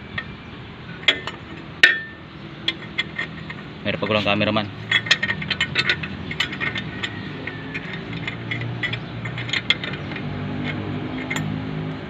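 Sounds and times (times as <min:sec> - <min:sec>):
metal tools clicking and clinking: 0:01.0 - 0:11.6.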